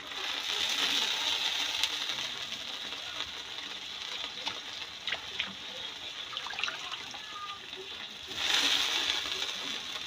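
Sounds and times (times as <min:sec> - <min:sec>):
oil crackling: 0:00.0 - 0:10.0
oil sizzling in a wok: 0:00.0 - 0:10.0.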